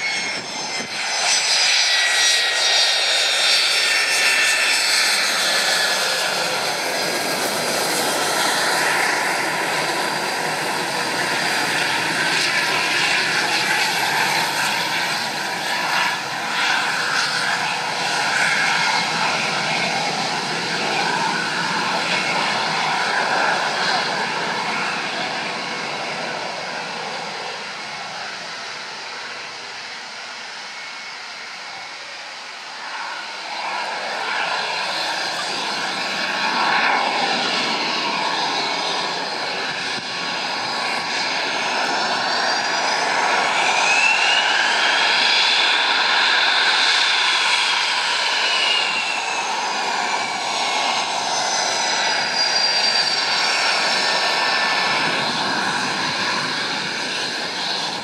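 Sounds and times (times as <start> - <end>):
jet engine whining: 0.0 - 58.0.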